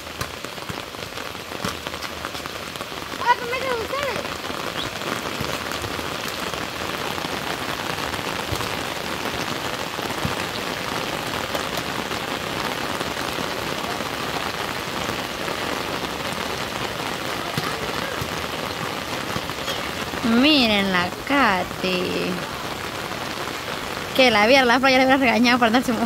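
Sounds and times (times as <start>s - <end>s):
sharp raindrop impacts: 0.0s - 26.0s
steady rain falling: 0.0s - 26.0s.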